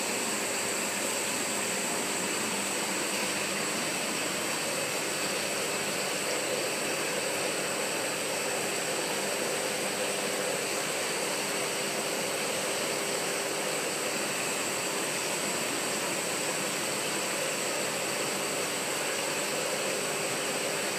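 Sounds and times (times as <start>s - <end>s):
faint pump hum: 0.0s - 20.9s.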